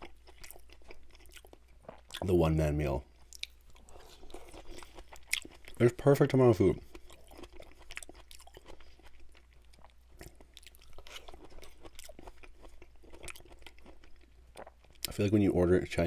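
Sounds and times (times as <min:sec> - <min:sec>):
chewing food: 0:00.0 - 0:02.4, 0:03.0 - 0:15.3.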